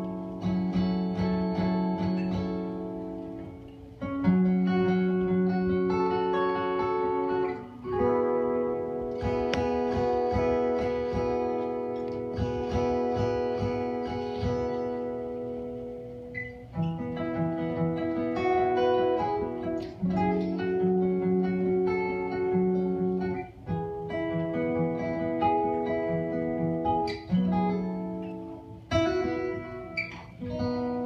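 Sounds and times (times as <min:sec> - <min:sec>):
held guitar melody notes: 0:00.0 - 0:31.0
strummed guitar chords: 0:00.0 - 0:31.0.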